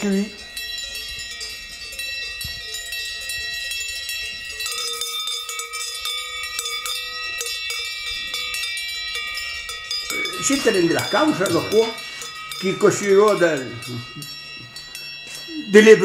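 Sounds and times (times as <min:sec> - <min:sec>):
cowbells clanking: 0:00.0 - 0:16.0.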